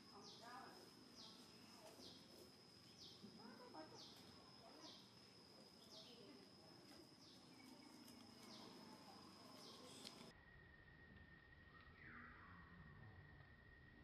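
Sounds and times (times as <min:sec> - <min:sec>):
steady high whine: 0:00.0 - 0:14.0.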